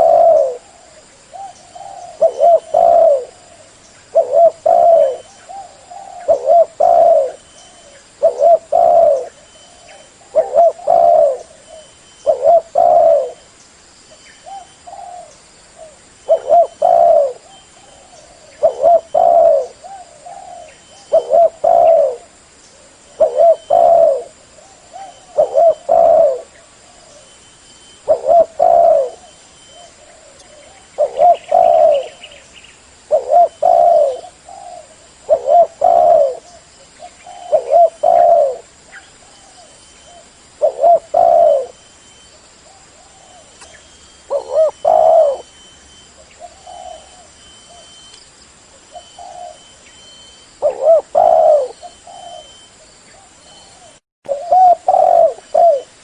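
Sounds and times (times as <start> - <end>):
dove cooing: 0.0 - 13.5, 14.4 - 32.4, 33.0 - 41.9, 42.6 - 48.1, 48.8 - 56.0.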